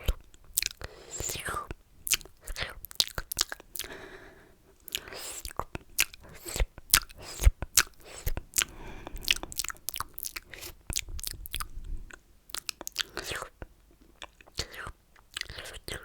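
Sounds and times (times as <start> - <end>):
wet lip and tongue clicks: 0.0 - 3.9, 4.9 - 16.0.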